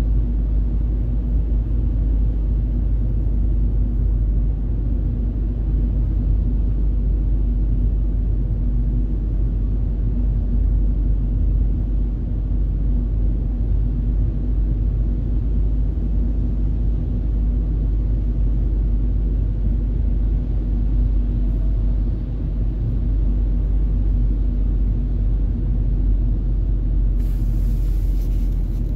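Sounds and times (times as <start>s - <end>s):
car cabin road rumble: 0.0s - 28.9s
faint steady hum: 0.0s - 28.9s.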